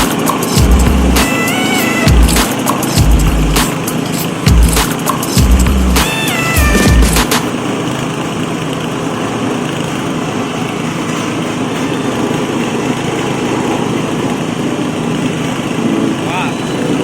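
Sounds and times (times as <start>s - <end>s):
feed chopper machine humming: 0.0s - 17.0s.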